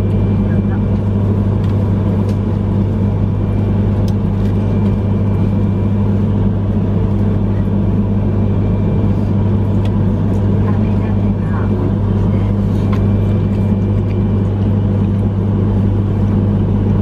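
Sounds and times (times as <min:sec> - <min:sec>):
train cabin running noise: 0:00.0 - 0:17.0.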